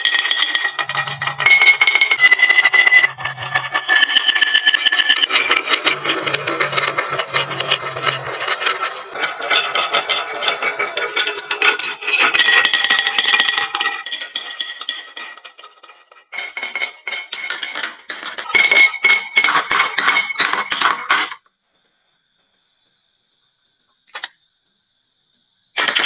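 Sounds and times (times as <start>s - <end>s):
marbles clattering down wooden run: 0.0s - 21.4s.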